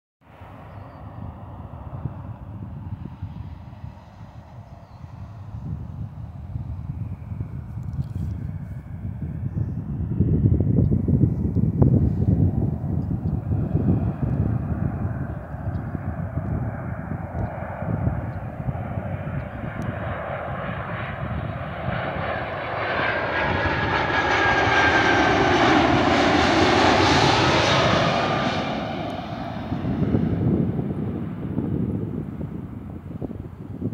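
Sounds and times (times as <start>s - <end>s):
jet engines passing: 0.3s - 33.9s
wind on microphone: 0.6s - 33.9s.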